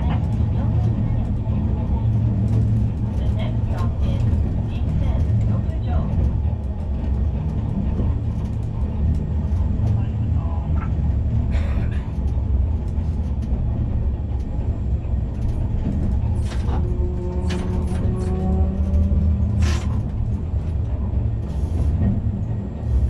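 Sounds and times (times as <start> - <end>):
streetcar wheels rumbling: 0.0 - 23.0.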